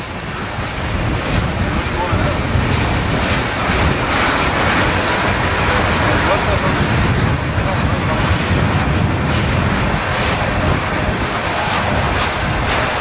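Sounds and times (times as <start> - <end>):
freight train cars rumbling past: 0.0 - 13.0.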